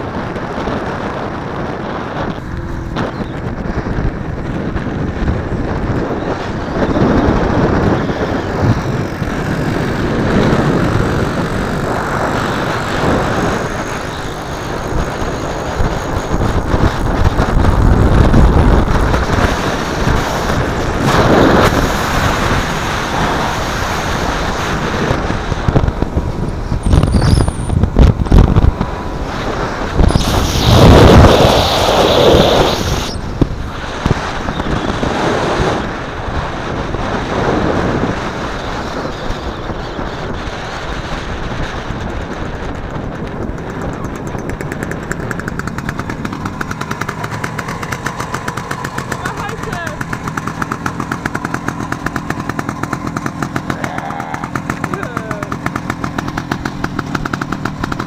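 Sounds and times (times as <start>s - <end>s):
two-stroke motorcycle engine: 0.0s - 58.0s
wind noise on microphone: 0.0s - 58.0s.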